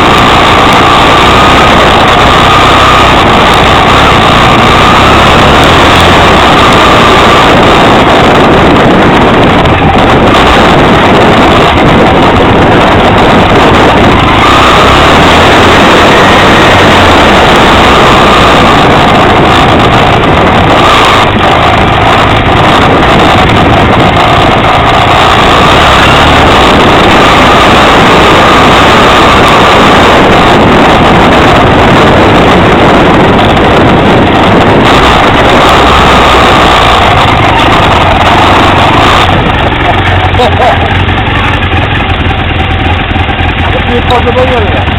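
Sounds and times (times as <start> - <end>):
motorcycle engine running: 0.0 - 44.9
wind on microphone: 0.0 - 44.9.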